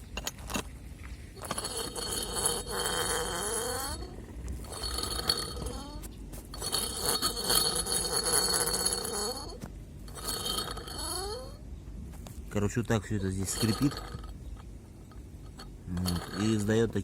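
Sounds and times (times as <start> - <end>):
fan bearing squealing: 1.4 - 11.6, 13.0 - 17.0.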